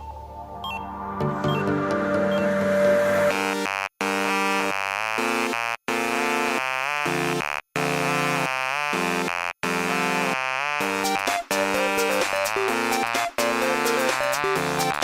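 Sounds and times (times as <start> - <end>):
buzzing synthesizer chords: 0.8 - 15.0.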